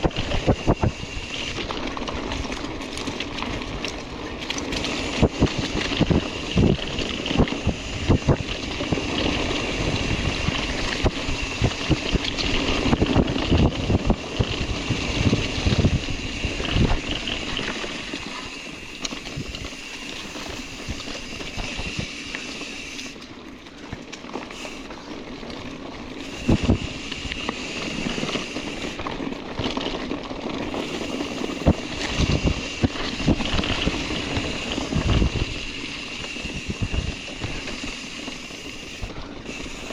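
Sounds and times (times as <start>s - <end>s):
bike tyres on gravel: 0.0s - 39.9s.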